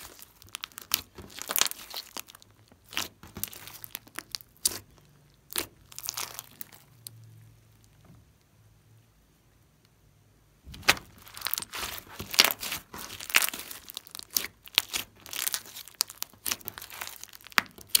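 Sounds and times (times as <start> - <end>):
slime crackling and squelching: 0.0 - 8.0, 10.6 - 18.0.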